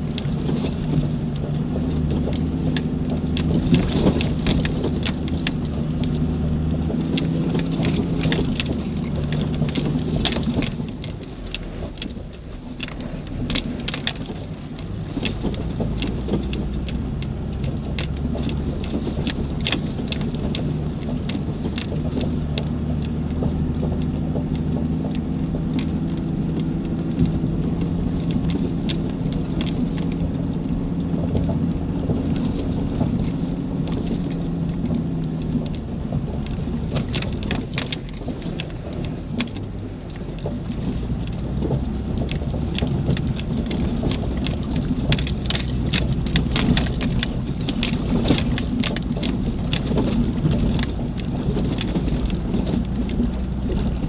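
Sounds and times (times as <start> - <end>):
off-road vehicle engine under load: 0.0 - 54.0
tyres crunching over dirt and stones: 0.0 - 54.0.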